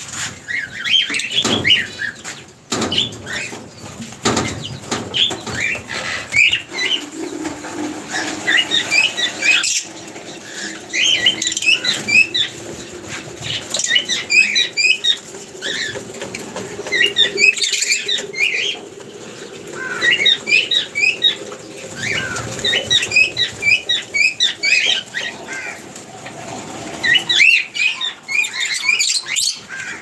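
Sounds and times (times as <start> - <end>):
birds chirping: 0.0 - 30.0
wings flapping: 0.0 - 30.0.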